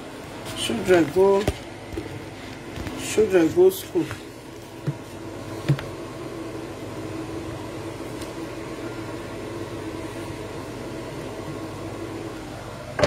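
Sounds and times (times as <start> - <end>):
extractor fan humming: 0.0 - 13.0.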